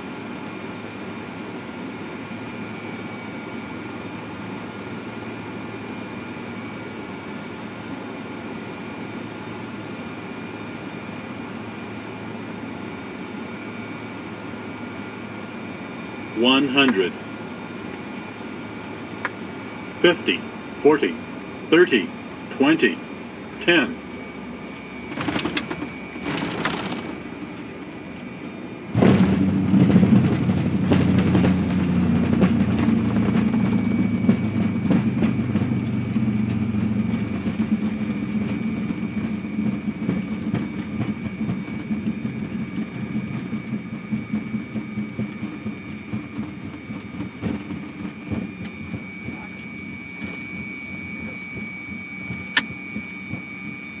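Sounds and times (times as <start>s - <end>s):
jet engine reverse thrust rumble: 0.0s - 54.0s
steady high whine: 0.0s - 54.0s.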